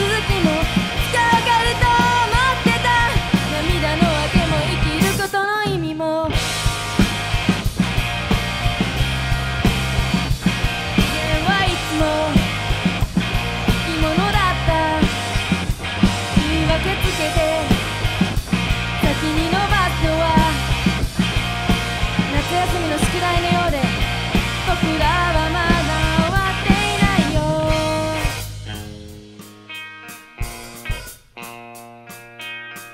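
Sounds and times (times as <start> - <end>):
live rock band playing: 0.0 - 32.9.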